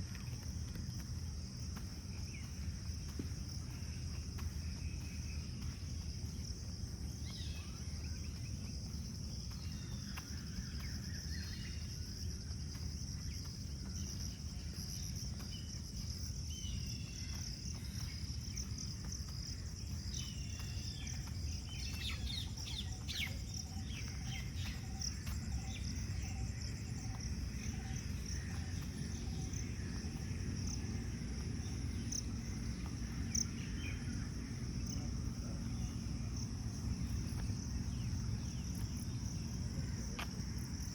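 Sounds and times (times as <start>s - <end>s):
crickets and insects chirping: 0.0s - 40.9s
low steady rumble: 0.0s - 40.9s.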